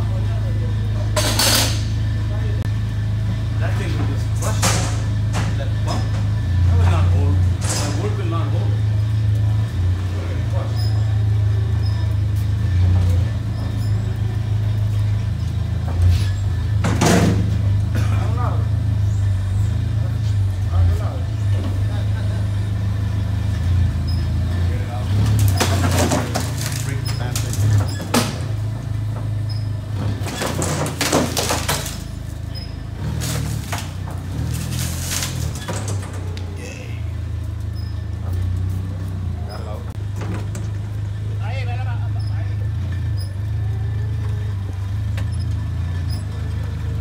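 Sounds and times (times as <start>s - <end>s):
forklift engine droning: 0.0s - 47.0s.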